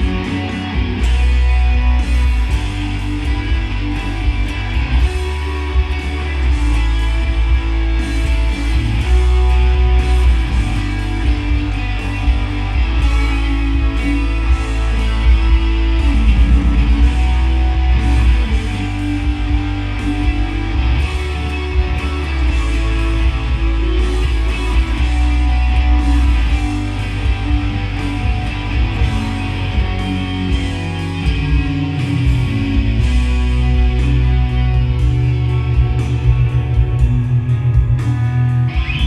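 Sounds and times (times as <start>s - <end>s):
loud rock music: 0.0s - 39.0s.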